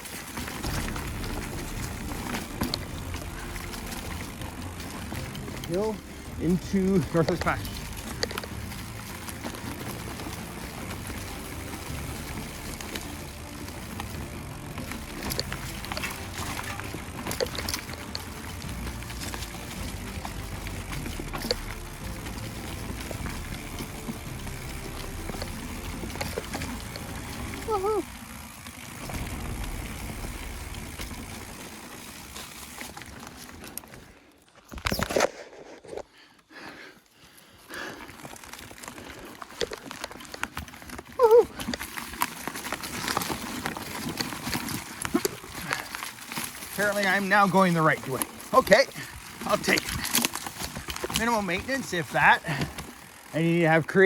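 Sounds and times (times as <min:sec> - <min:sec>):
small clicks and rattles: 0:00.0 - 0:36.0, 0:37.9 - 0:54.0
bike tyre rumble on dirt: 0:00.0 - 0:54.0.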